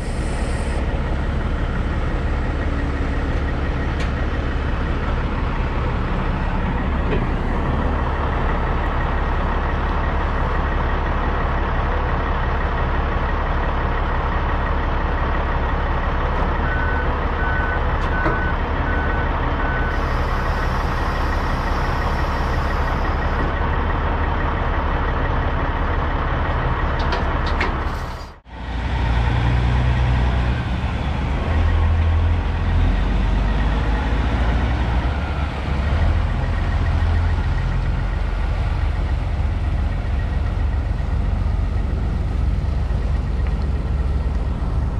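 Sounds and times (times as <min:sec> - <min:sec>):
diesel engine rumbling: 0:00.0 - 0:44.9.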